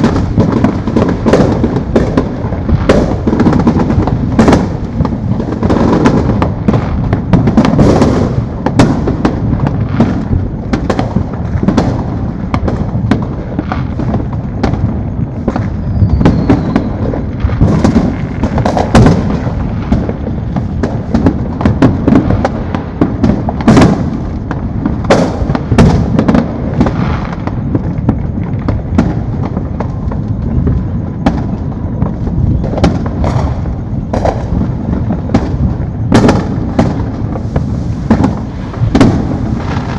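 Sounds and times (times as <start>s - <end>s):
distant fireworks booming: 0.0s - 39.9s
fireworks bangs and crackles: 0.0s - 39.9s.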